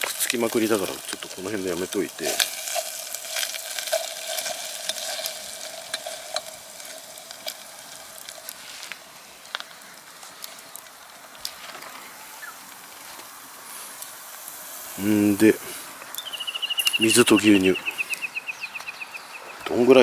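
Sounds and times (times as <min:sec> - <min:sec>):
bacon sizzling in a pan: 0:00.0 - 0:20.0.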